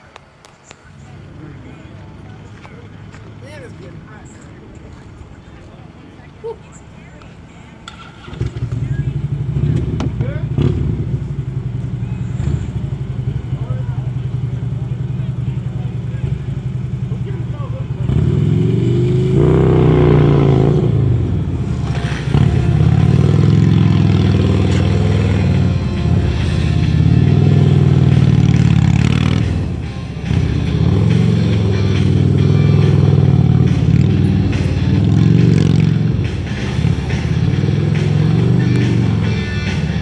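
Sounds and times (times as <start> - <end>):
motorcycle engine revving: 7.1 - 40.0.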